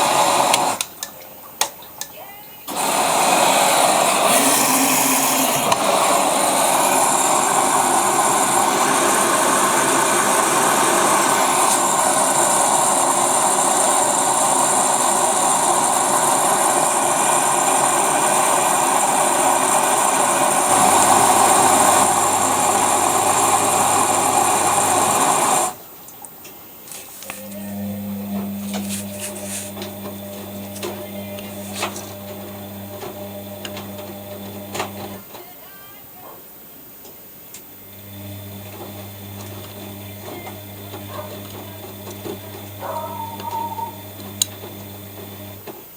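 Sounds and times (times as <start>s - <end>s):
washing machine running: 0.0s - 0.9s, 2.7s - 25.8s, 27.3s - 35.3s, 37.8s - 45.8s.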